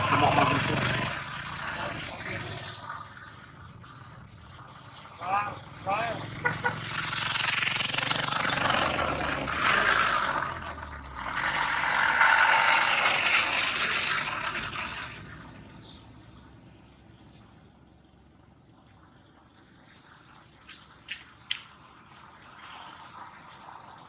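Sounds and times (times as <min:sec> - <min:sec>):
vehicles passing on road: 0:00.0 - 0:24.0.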